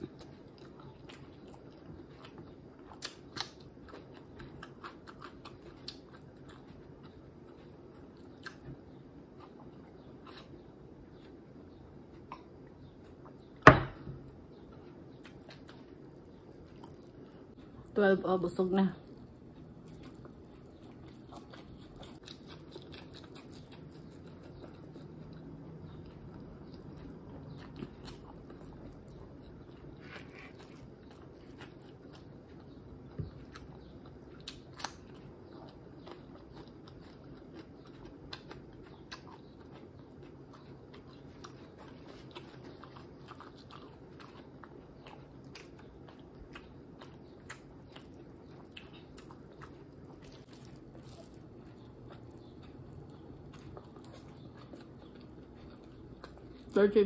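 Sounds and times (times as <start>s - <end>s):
person chewing: 0.0s - 11.4s, 14.2s - 17.9s, 19.0s - 56.8s
low background hum: 0.0s - 57.0s.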